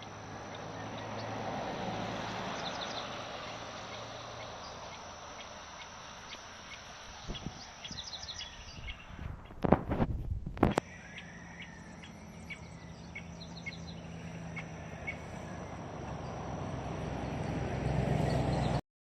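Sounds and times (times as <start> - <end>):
insect chirps: 0.0 - 18.7
insects buzzing: 0.0 - 18.8
rushing background noise: 0.0 - 18.8.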